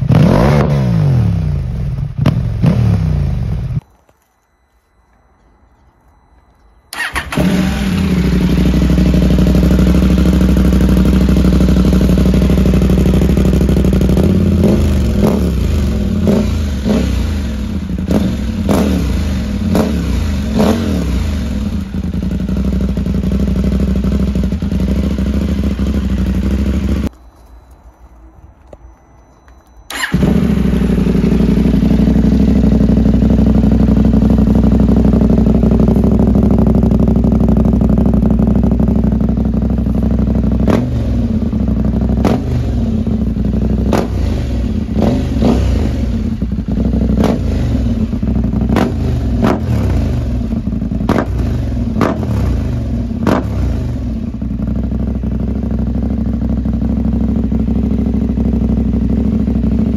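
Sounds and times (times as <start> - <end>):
motorcycle engine idling: 6.9 - 27.1, 29.9 - 59.9.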